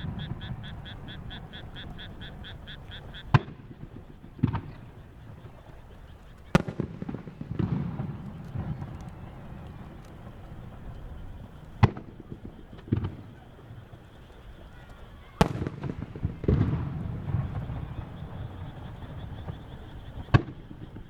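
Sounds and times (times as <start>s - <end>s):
firework shells booming: 0.0s - 21.0s.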